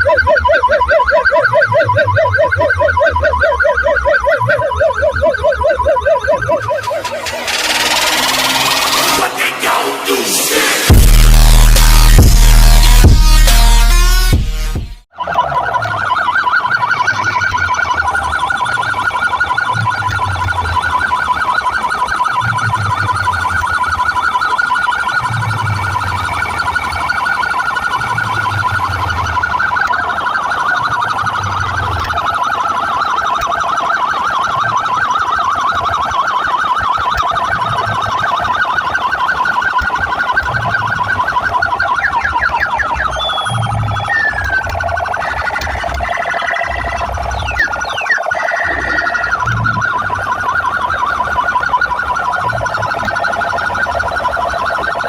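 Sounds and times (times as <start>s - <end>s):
siren-like electronic warble: 0.0s - 55.0s.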